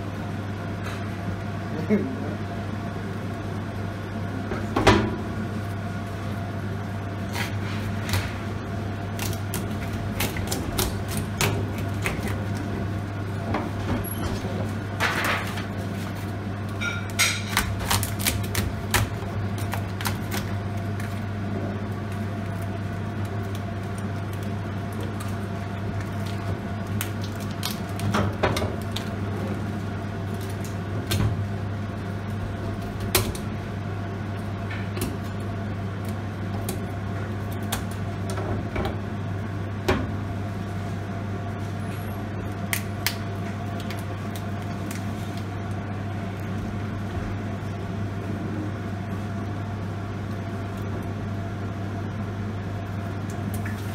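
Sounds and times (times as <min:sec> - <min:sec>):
low machine hum: 0:00.0 - 0:53.9.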